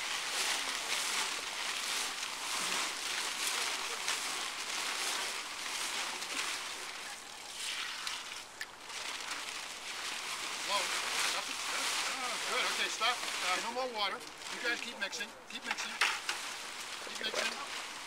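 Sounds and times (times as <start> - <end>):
plastic tarp rustling: 0.0 - 18.0
water pouring from bucket: 0.0 - 18.0.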